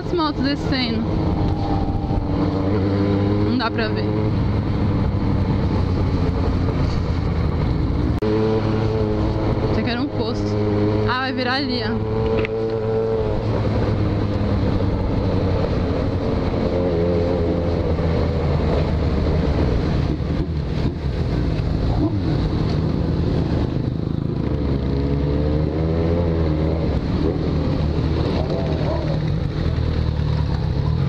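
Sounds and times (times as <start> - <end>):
wind rushing over microphone: 0.0 - 28.7
motorcycle engine running: 0.0 - 31.0.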